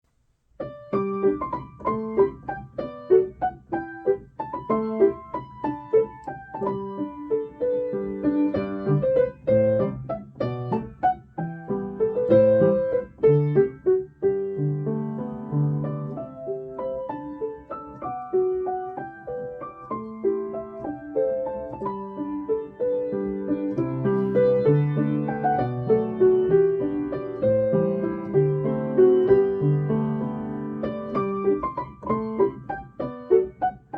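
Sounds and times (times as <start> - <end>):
solo piano piece: 0.2 - 33.9.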